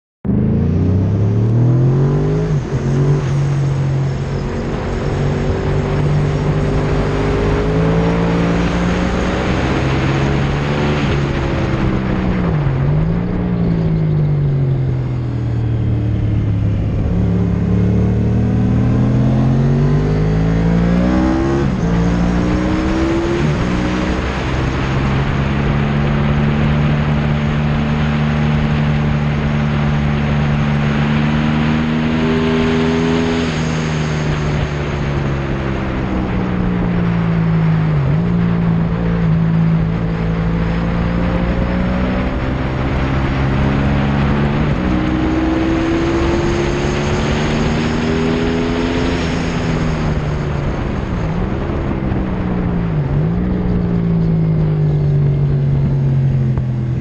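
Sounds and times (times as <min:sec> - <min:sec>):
motorcycle engine revving: 0:00.2 - 0:57.0
wind rushing over microphone: 0:00.2 - 0:57.0.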